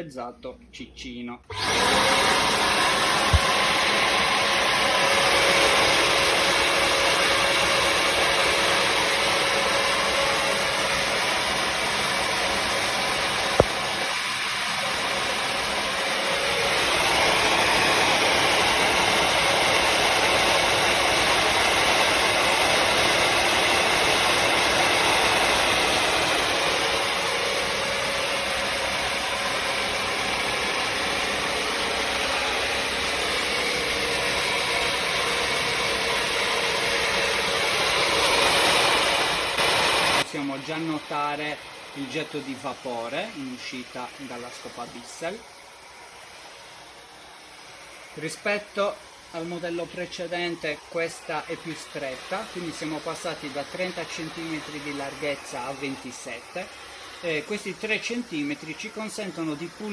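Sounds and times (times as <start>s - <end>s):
floor cleaner motor whining: 1.5s - 59.9s.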